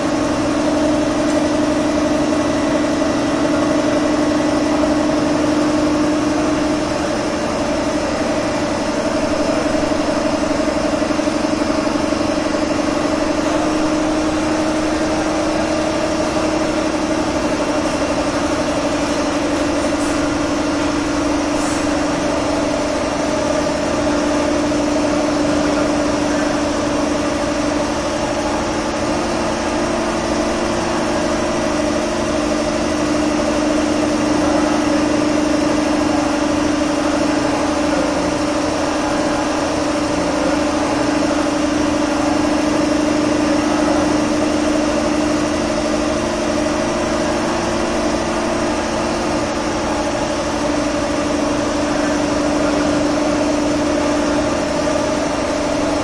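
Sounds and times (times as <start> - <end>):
steady engine hum: 0.0 - 56.0.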